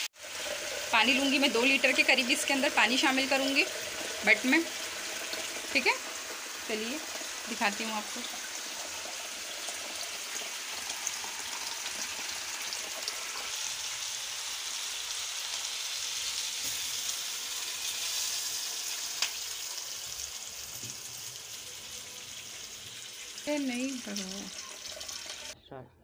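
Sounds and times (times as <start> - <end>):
water hissing in hot wok: 0.0 - 25.6
tap water running into jug: 0.2 - 14.7, 16.0 - 25.6.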